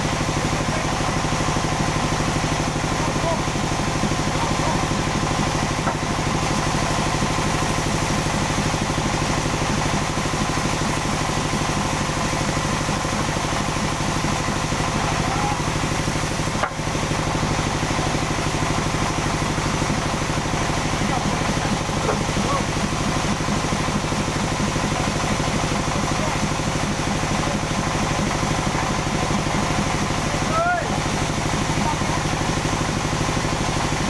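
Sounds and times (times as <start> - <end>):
sawmill engine droning: 0.0 - 34.0.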